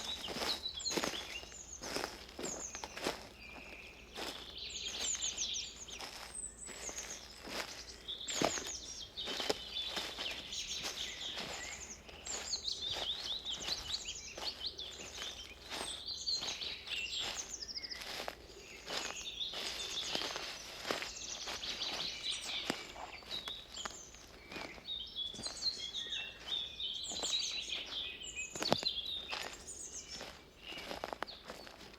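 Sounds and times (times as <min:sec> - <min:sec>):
footsteps on forest path: 0:00.0 - 0:31.9
forest birds chirping: 0:00.0 - 0:31.9.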